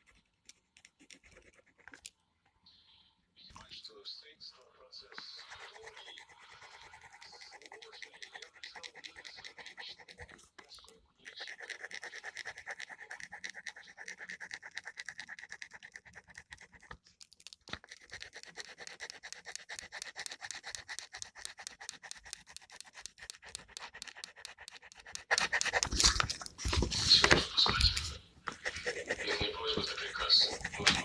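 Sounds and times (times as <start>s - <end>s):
pen scratching on paper: 0.0s - 2.1s, 5.1s - 31.0s.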